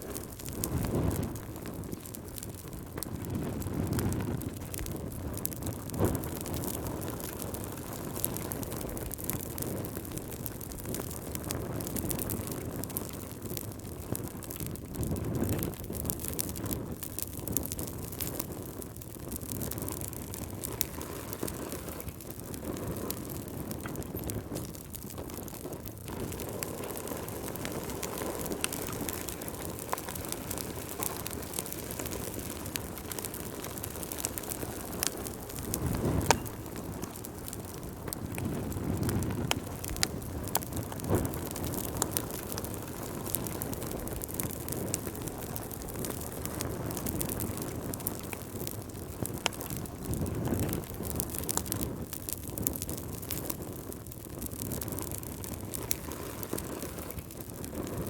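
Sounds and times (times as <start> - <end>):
fire crackling and popping: 0.0 - 58.0
fire flames rushing: 0.0 - 58.0.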